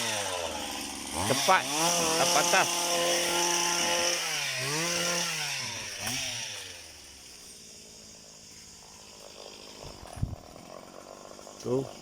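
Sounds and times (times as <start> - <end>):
small engine revving: 0.0 - 12.0.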